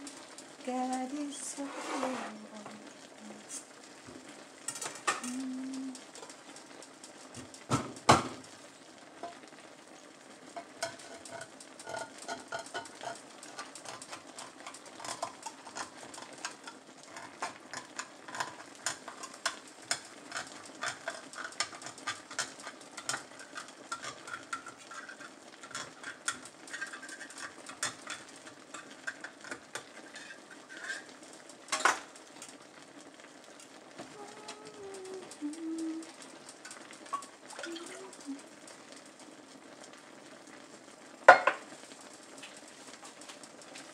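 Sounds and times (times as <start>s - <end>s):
broth bubbling and crackling: 0.0s - 1.7s, 2.3s - 43.9s.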